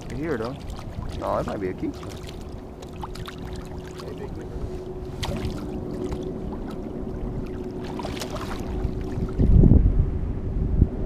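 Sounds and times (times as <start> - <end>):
water sloshing and splashing: 0.0 - 9.6
faint steady hum: 0.0 - 11.0.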